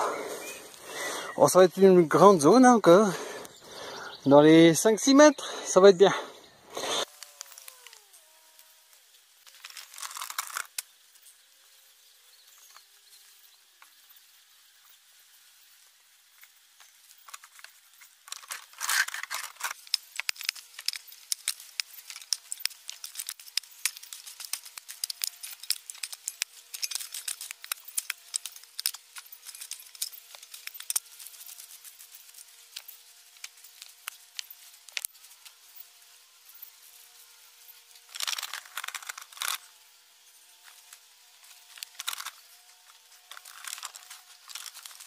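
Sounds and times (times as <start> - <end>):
dry straw rustling and crackling: 7.0 - 45.0.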